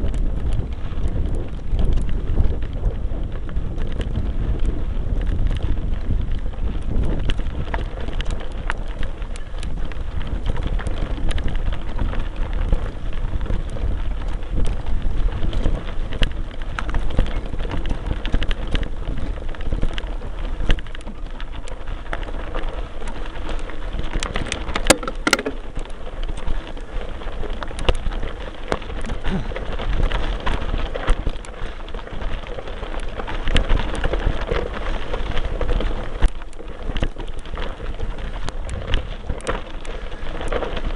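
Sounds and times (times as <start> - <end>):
bike tyres crunching on gravel: 0.0 - 40.9
wind rumbling on microphone: 0.0 - 40.9.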